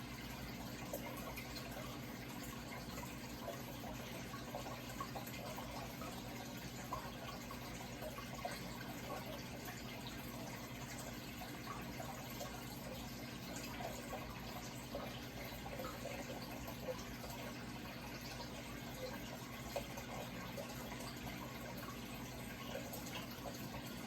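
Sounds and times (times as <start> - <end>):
water trickling and bubbling: 0.0 - 24.0.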